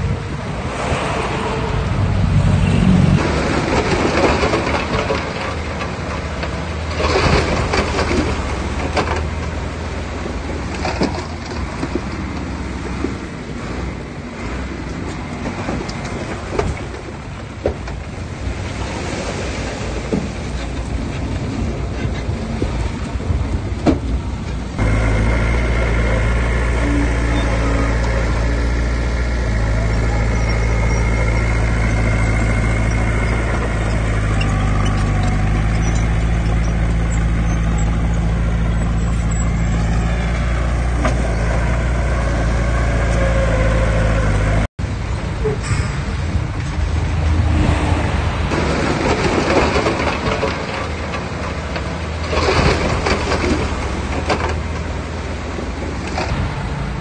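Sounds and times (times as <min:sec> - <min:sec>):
diesel engine humming: 0:00.0 - 0:57.0
rough noisy engine: 0:00.0 - 0:57.0.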